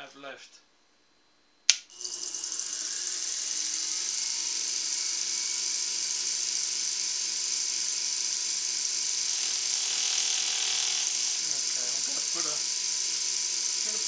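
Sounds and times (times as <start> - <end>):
milling machine spindle whirring: 2.0 - 14.0.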